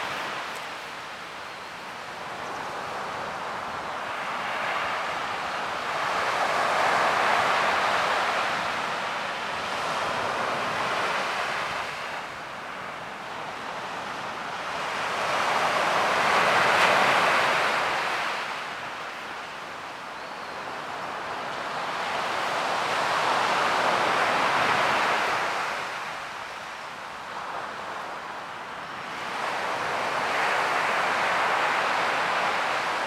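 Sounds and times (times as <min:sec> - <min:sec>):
ocean waves rushing in: 0:00.0 - 0:13.2, 0:14.0 - 0:33.0.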